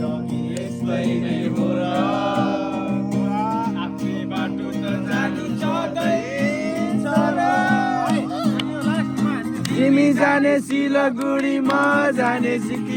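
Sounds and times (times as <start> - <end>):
acoustic guitar strumming: 0.0 - 12.9
person singing: 0.0 - 12.9.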